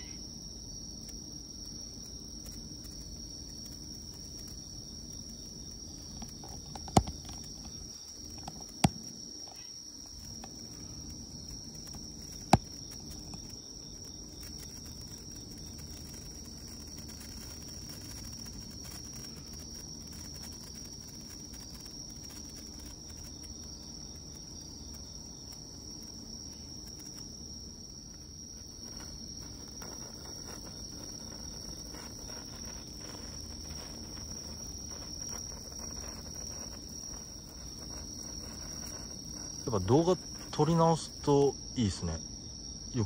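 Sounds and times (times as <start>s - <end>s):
crickets chirping: 0.0s - 43.0s.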